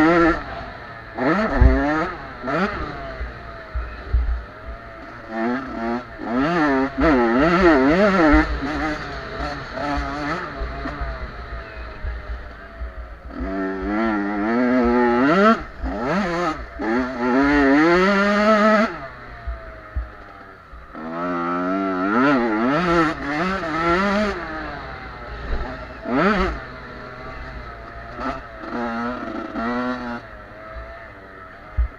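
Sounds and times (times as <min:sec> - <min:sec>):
motocross bikes racing: 0:00.0 - 0:31.9.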